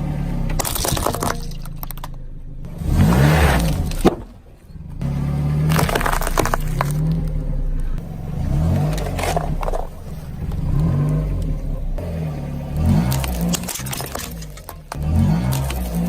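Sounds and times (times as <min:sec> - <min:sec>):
objects being crushed: 0:00.5 - 0:02.4, 0:03.0 - 0:07.4, 0:08.0 - 0:12.1, 0:12.7 - 0:16.0
low rumble: 0:01.7 - 0:15.8.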